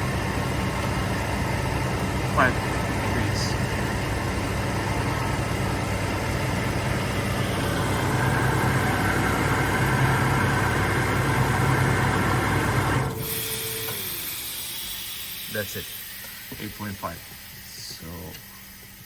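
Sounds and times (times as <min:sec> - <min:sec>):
air compressor humming: 0:00.0 - 0:19.0.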